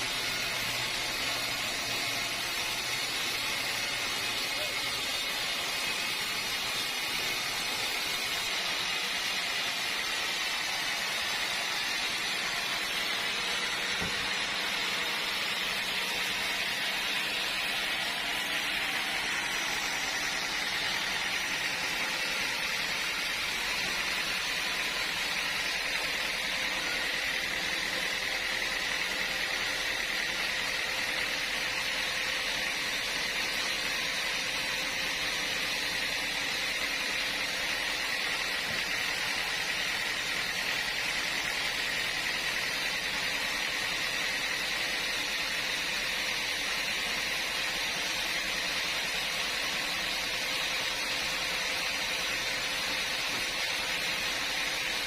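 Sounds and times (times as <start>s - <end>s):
sawmill machinery hissing: 0.0s - 55.0s.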